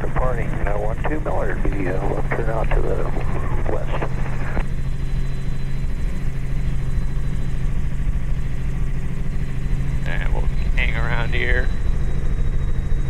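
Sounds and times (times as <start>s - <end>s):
helicopter engine and rotors droning: 0.0s - 13.0s.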